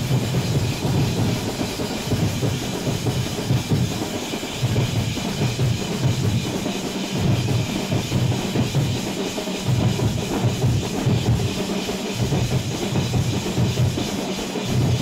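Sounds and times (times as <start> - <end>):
drum ensemble: 0.0 - 15.0.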